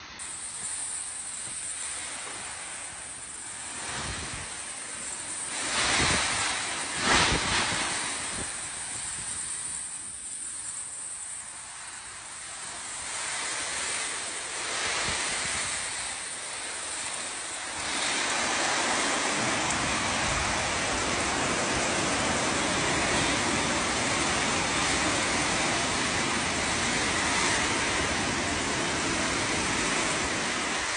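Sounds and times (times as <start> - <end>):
rain: 0.0 - 30.9
storm wind: 0.0 - 30.9.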